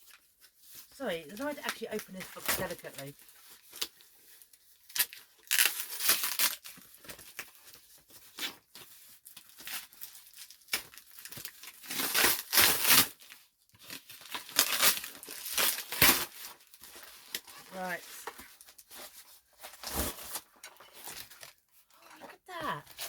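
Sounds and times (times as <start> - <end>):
wrapping paper tearing: 0.0 - 19.1
paper crinkling: 0.0 - 23.0.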